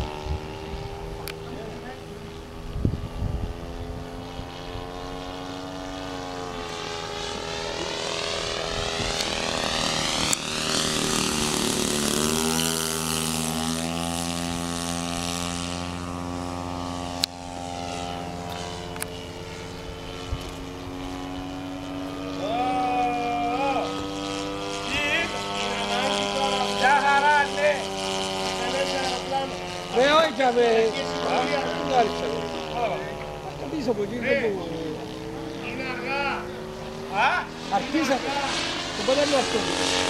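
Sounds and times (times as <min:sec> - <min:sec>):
model plane engine droning: 0:00.0 - 0:40.0.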